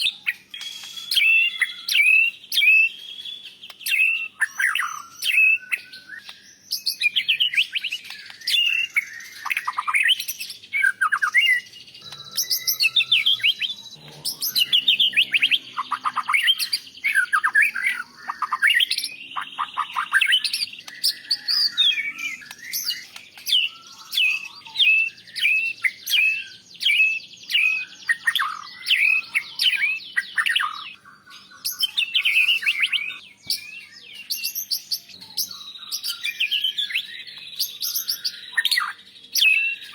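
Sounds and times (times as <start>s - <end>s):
bird singing rapid whistles and trills: 0.0s - 39.9s.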